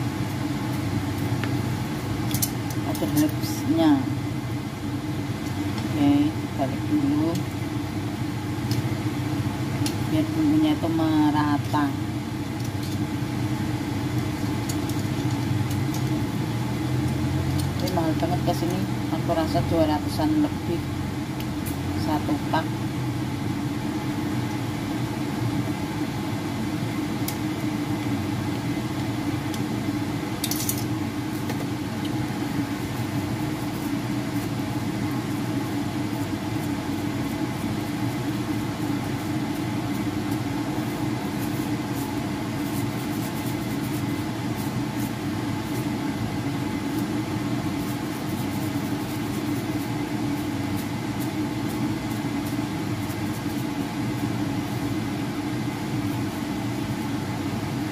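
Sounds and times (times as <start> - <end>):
low mechanical hum: 0.0 - 57.9.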